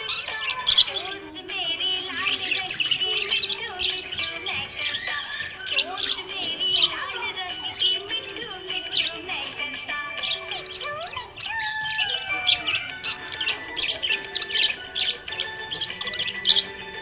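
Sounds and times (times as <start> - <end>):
budgerigars chirping and warbling: 0.0 - 17.0.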